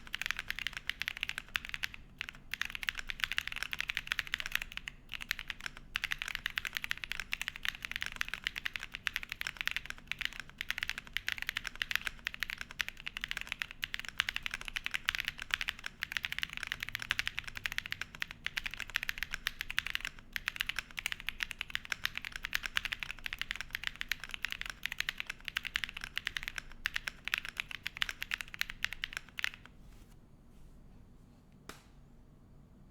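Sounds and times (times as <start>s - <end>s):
mechanical keyboard typing: 0.0s - 29.7s.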